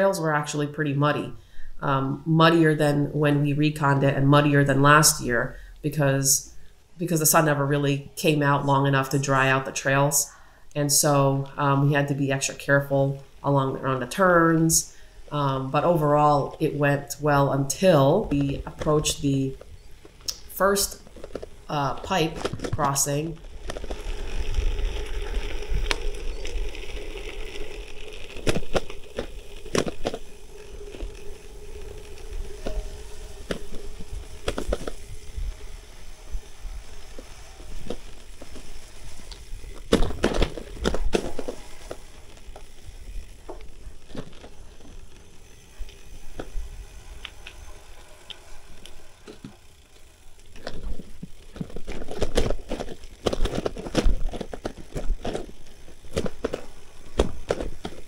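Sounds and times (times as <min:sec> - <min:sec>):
bike rattling over bumps: 0:00.0 - 0:58.0
steady hum: 0:00.0 - 0:58.0
tyres crackling on wet trail: 0:03.8 - 0:58.0.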